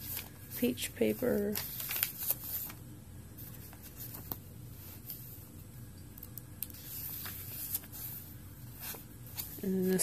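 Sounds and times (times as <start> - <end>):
paper pages rustling: 0.0 - 2.8, 3.4 - 5.4, 6.7 - 10.0.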